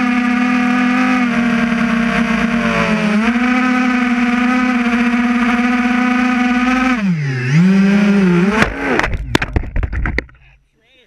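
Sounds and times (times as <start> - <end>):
drone propellers humming: 0.0 - 10.5.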